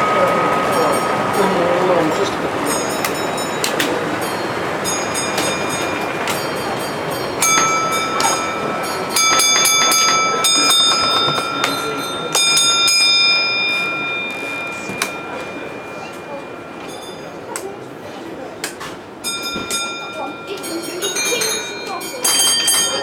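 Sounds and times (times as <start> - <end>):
hall background noise: 0.0 - 23.0.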